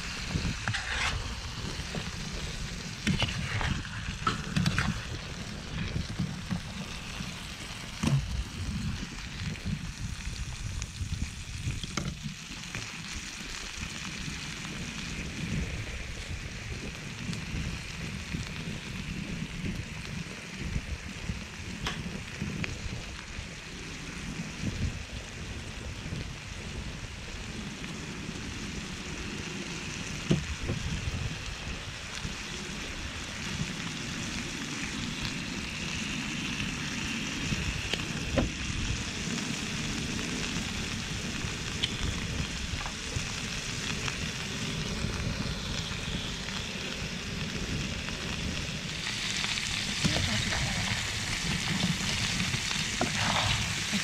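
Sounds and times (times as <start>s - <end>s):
meat sizzling in a pot: 0.0s - 54.0s.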